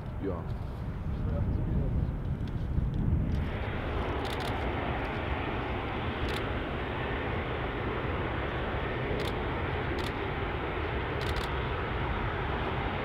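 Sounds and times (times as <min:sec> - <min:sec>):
jet engines taxiing: 0:00.0 - 0:13.0.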